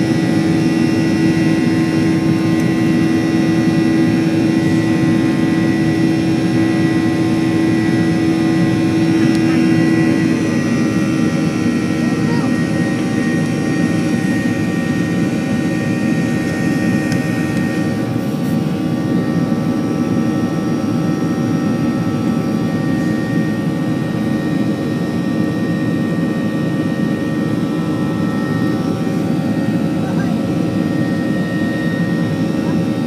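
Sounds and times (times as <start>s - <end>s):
high whine of engine fans: 0.0s - 33.0s
jet engines droning: 0.0s - 33.0s.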